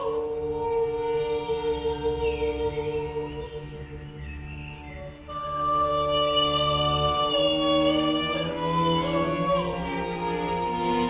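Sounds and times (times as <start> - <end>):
string ensemble: 0.0 - 11.0
voices holding sustained chords: 0.0 - 11.0.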